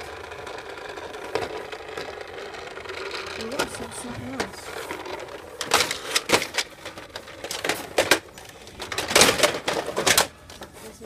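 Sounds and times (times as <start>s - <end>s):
plastic toys clattering on metal shelf: 0.0s - 10.8s.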